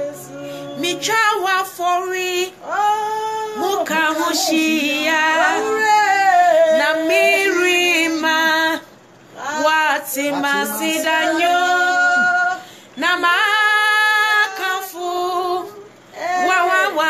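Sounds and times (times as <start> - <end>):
women singing gospel song: 0.0 - 17.0.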